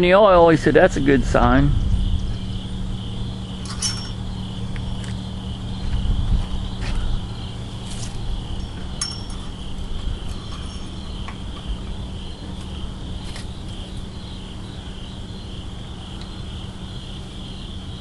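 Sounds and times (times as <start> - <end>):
low rumble: 0.0 - 16.9
crickets chirping: 0.0 - 18.0.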